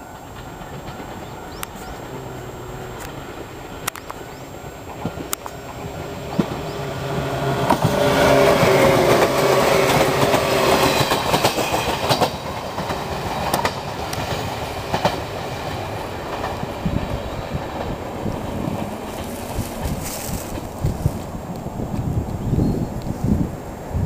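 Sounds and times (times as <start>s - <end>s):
train wheels clacking: 0.0s - 22.0s
electric train humming: 0.0s - 24.0s.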